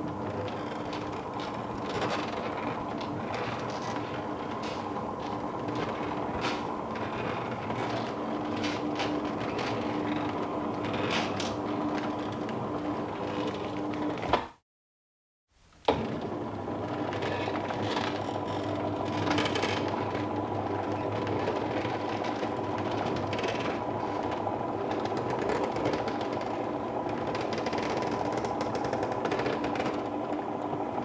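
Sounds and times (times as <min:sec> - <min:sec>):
roller shutter motor hum: 0:00.0 - 0:14.4, 0:15.9 - 0:31.0.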